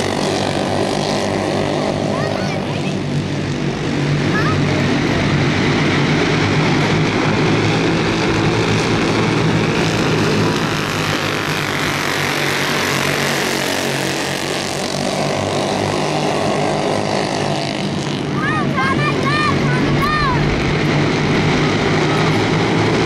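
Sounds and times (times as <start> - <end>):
go-kart engines racing: 0.0 - 23.0.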